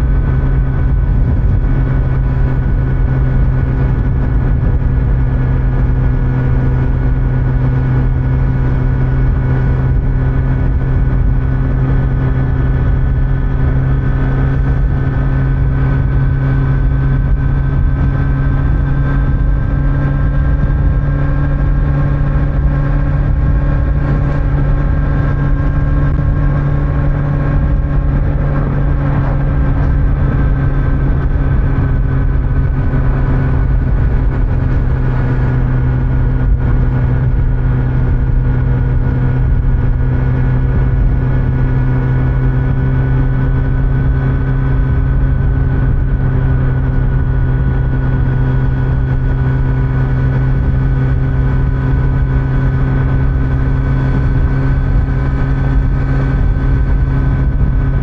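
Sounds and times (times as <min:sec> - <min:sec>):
motorcycle engine cruising: 0:00.0 - 0:58.0
road noise: 0:00.0 - 0:58.0
wind noise: 0:00.0 - 0:58.0.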